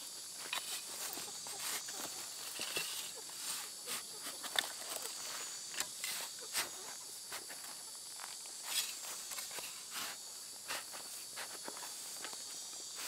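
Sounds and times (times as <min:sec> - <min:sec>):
shovel scraping dry soil: 0:00.0 - 0:07.8, 0:08.5 - 0:12.2.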